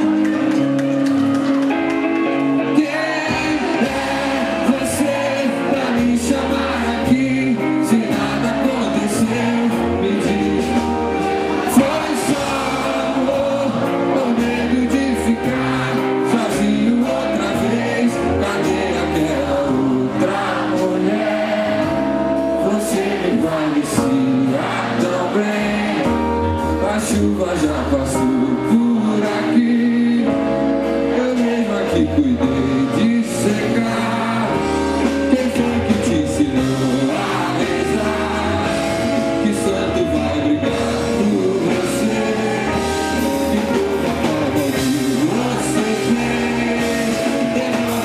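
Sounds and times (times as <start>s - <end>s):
rock band playing: 0.0s - 48.0s
man singing: 2.2s - 48.0s.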